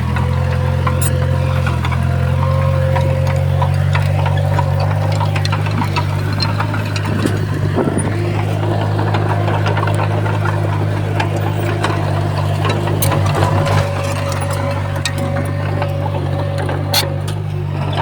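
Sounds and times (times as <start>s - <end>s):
bulldozer diesel engine running: 0.0s - 18.0s
clanks and knocks from tracks: 0.0s - 18.0s.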